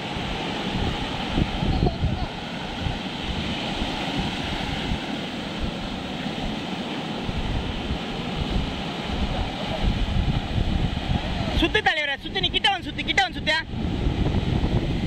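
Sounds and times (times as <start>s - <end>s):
surf breaking on beach: 0.0s - 15.0s
wind rumbling on microphone: 0.0s - 15.0s.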